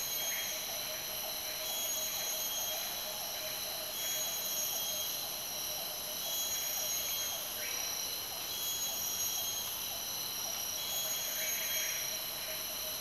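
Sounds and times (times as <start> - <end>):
rapidly pulsing insect chirr: 0.0 - 13.0.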